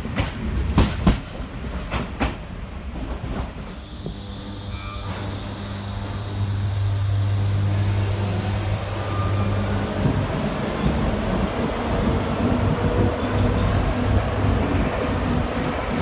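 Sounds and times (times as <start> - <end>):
electric locomotive hum: 0.0 - 16.0
wheels rumbling and clattering on rails: 0.0 - 16.0.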